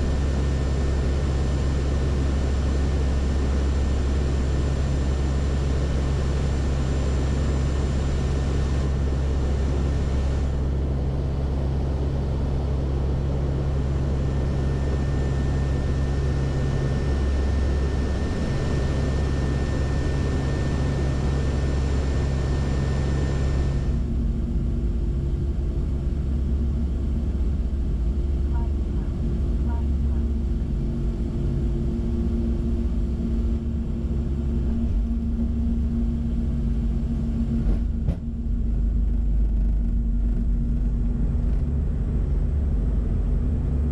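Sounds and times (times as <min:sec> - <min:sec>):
thin steady whine: 0:00.0 - 0:43.9
turboprop engines droning: 0:00.0 - 0:43.9.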